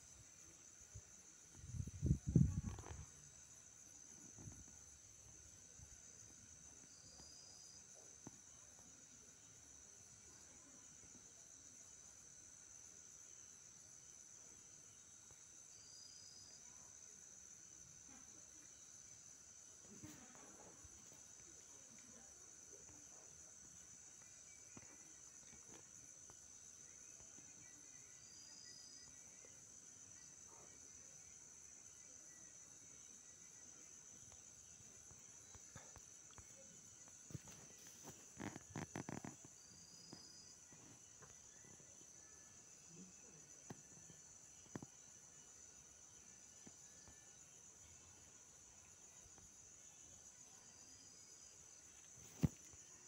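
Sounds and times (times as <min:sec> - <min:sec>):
faint high-pitched hiss: 0:00.0 - 0:53.0.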